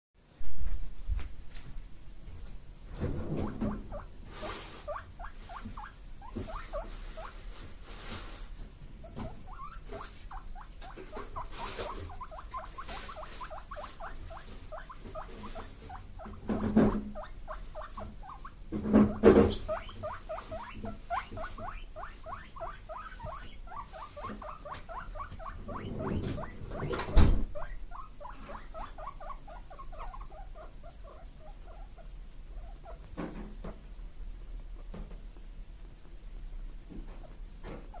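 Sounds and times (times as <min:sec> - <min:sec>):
guinea pigs squeaking: 0:03.1 - 0:38.0.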